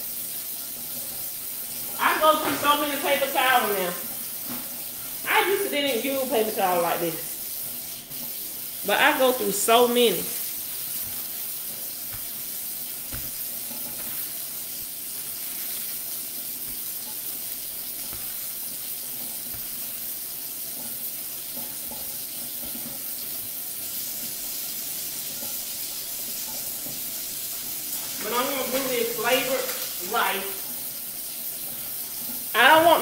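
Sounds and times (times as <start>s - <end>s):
food cooking hiss: 0.0s - 33.0s.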